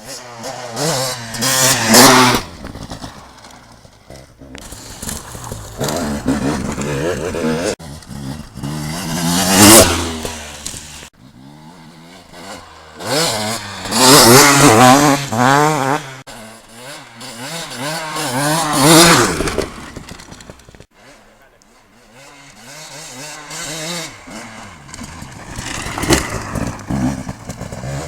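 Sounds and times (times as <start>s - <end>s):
motorcycles revving past: 0.0s - 20.3s, 22.0s - 28.0s.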